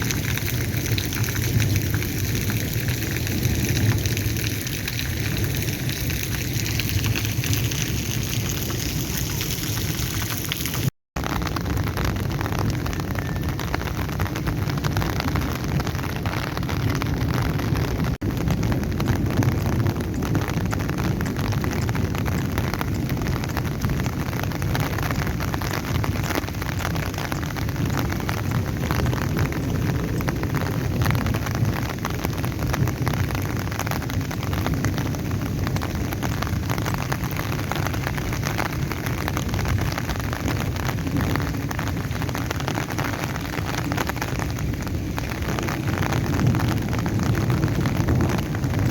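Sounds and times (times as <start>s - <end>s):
heavy rain falling: 0.0s - 48.9s
wind rumbling: 0.0s - 48.9s.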